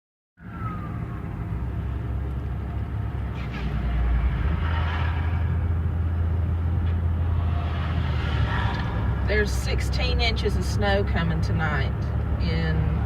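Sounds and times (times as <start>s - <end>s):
vehicle engine rumbling: 0.4s - 13.0s.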